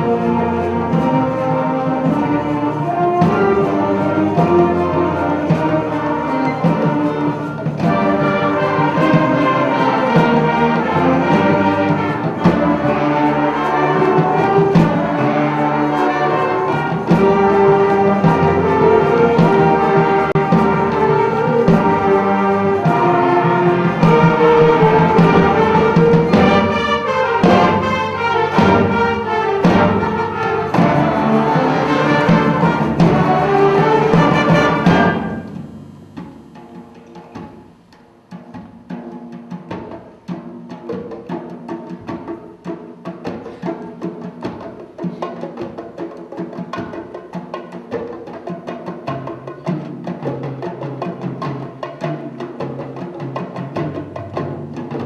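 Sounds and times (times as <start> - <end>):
sharp percussion strikes: 0.0 - 55.0.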